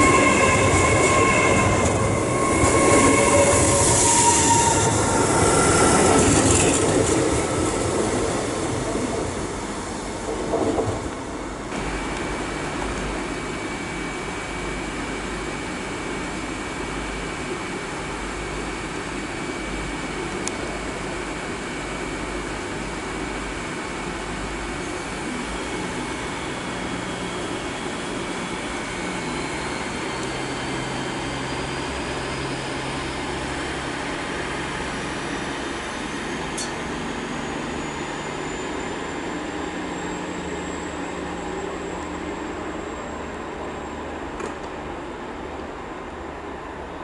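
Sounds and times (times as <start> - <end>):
train droning with high whines: 0.0 - 47.0.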